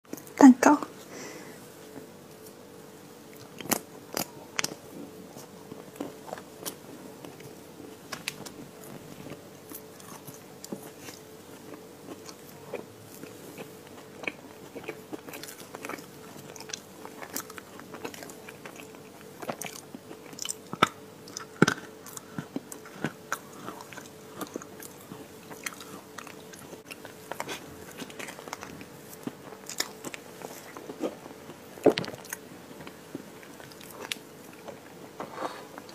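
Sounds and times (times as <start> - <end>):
faint hum: 0.0 - 35.9
chewing and crunching: 1.7 - 35.9.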